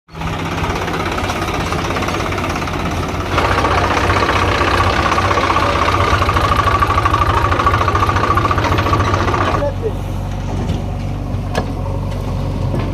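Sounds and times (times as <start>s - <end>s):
heavy diesel engine throbbing: 0.1s - 12.9s.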